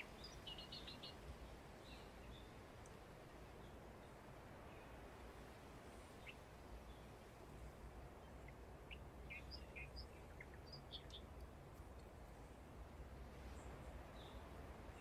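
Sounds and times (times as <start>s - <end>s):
small birds chirping: 0.0s - 3.0s, 3.6s - 15.0s.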